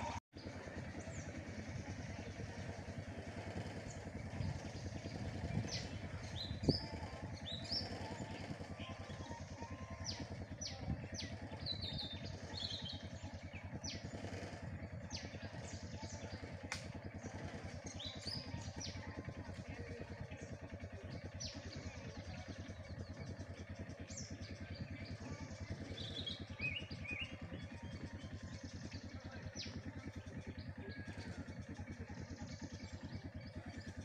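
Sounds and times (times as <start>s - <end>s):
birds chirping: 0.0s - 34.0s
engine idling: 0.0s - 34.0s.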